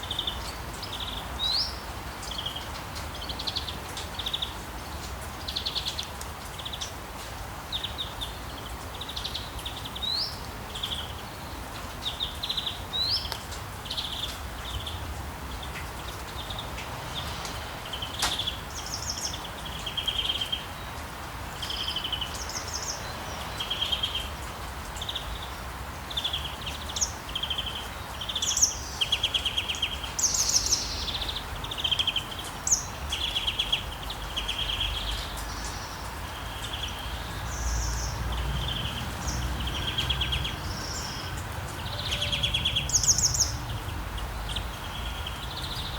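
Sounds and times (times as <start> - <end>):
rain hiss: 0.0 - 45.9
songbirds trilling and chirping: 0.0 - 45.9.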